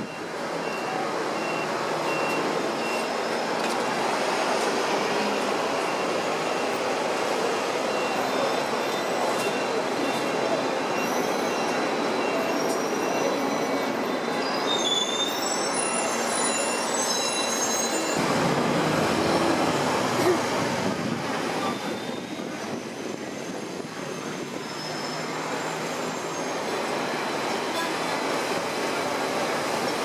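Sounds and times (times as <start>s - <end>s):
tram wheel squeals: 0.0s - 20.6s, 21.3s - 30.0s
tram rolling rattle: 0.0s - 30.0s.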